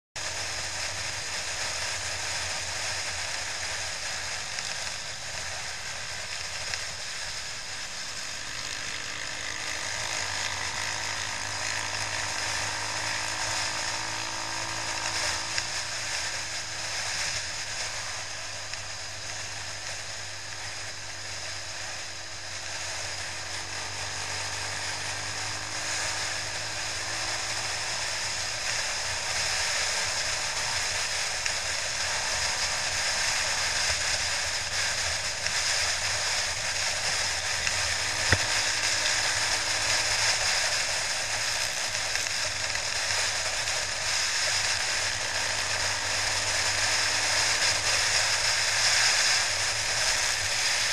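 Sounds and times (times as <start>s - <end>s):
faint motorcycle engine: 0.2s - 50.9s.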